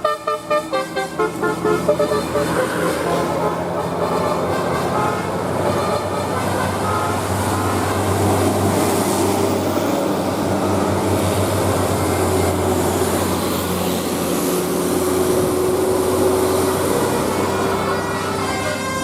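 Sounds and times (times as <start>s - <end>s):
heavy vehicle passing: 0.5s - 19.0s.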